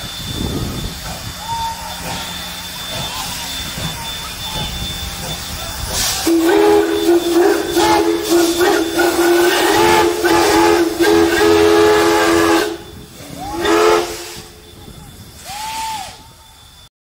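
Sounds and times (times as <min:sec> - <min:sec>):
hiss of steam: 0:00.0 - 0:16.9
steam locomotive whistle blasts: 0:00.0 - 0:16.9.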